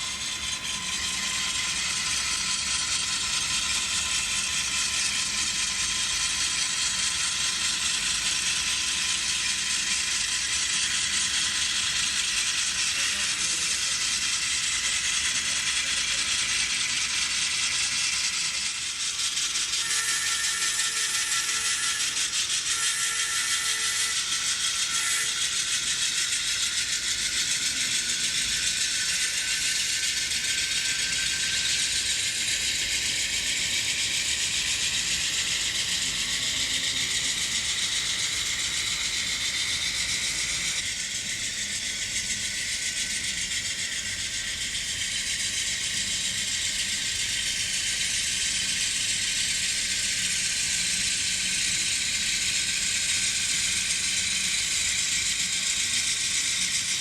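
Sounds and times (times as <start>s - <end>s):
model train motors whirring: 0.0s - 57.0s.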